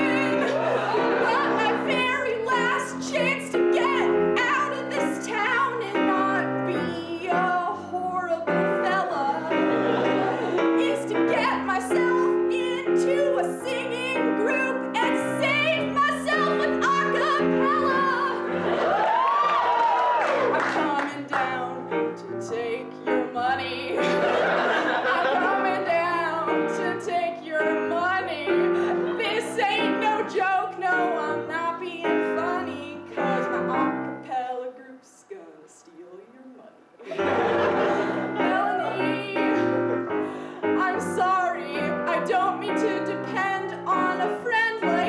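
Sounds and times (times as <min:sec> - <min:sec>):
woman singing with vibrato: 0:00.0 - 0:19.3, 0:20.4 - 0:24.3, 0:25.3 - 0:36.9, 0:38.1 - 0:45.0.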